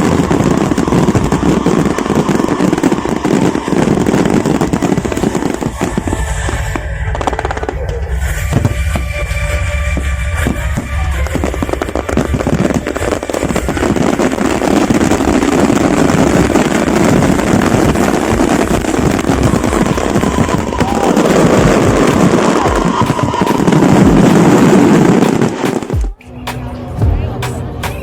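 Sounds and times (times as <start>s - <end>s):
deep firework bangs: 0.0s - 26.2s
firecrackers crackling: 0.0s - 28.0s.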